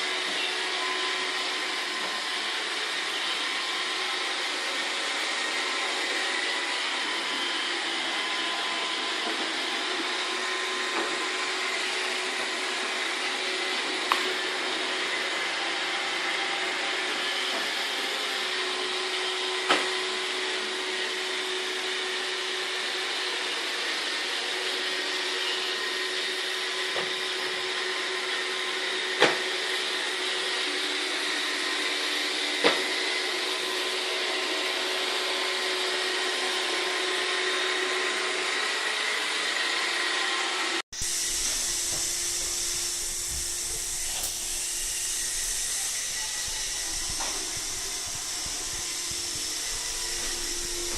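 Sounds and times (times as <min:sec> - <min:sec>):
robot vacuum whirring hum: 0:00.0 - 0:50.9.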